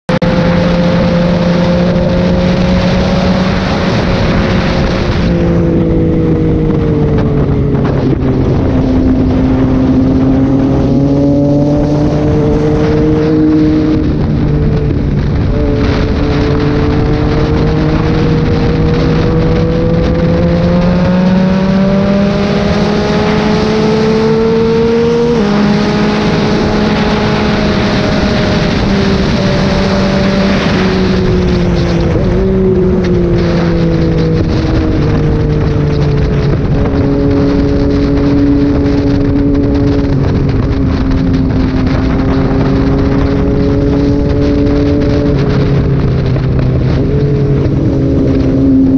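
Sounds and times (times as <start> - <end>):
motorcycle engine revving: 0.1 - 48.9.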